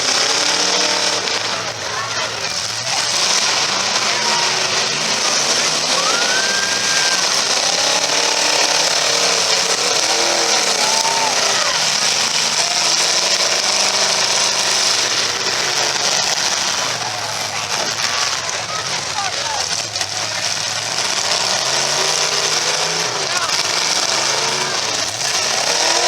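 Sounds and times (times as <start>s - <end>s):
car engines revving hard: 0.0s - 26.0s.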